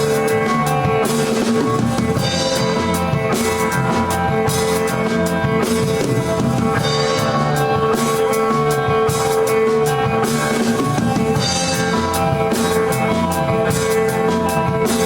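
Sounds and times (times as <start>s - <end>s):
drum kit beat: 0.0s - 15.0s
live rock band playing: 0.0s - 15.0s.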